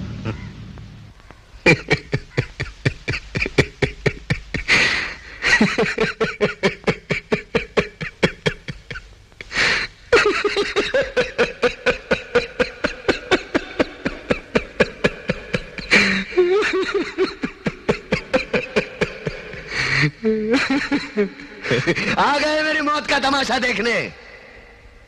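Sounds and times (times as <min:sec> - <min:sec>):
boy giggling: 0:01.6 - 0:22.2.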